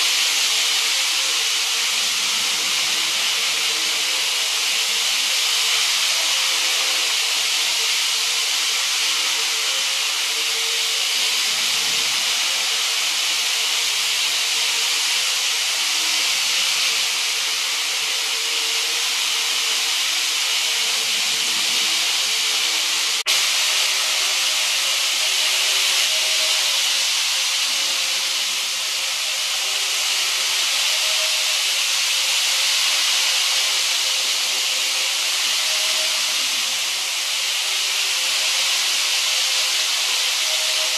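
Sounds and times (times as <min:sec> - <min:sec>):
model train wheels hissing on rail: 0:00.0 - 0:40.9.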